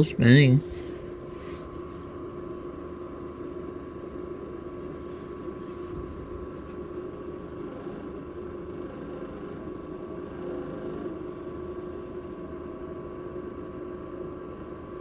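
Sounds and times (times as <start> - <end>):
heater fan motor humming: 0.0 - 15.0.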